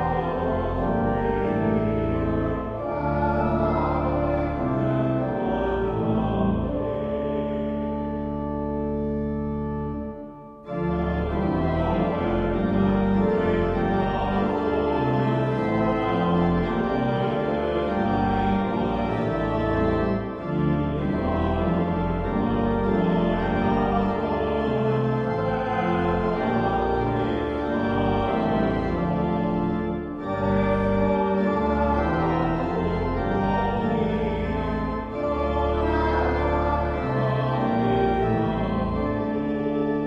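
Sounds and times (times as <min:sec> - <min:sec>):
church organ playing chords: 0:00.0 - 0:40.0.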